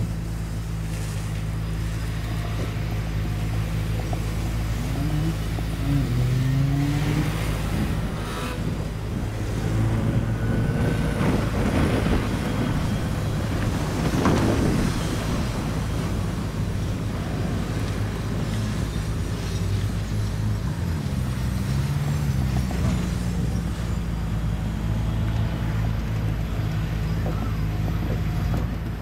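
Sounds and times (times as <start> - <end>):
tyre and road noise: 0.0 - 29.0
vehicle engine running: 0.0 - 29.0.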